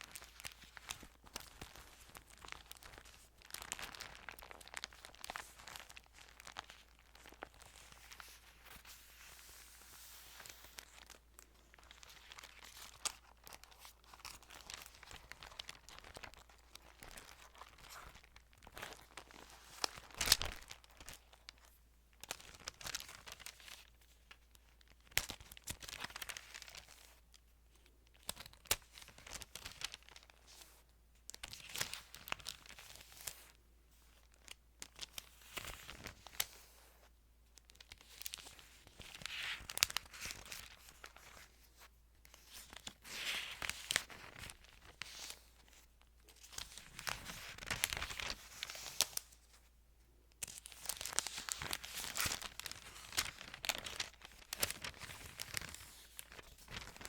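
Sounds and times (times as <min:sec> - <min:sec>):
thin pages rustling and turning: 0:00.0 - 0:27.2, 0:28.2 - 0:33.5, 0:34.1 - 0:37.1, 0:37.7 - 0:49.7, 0:50.4 - 0:57.0.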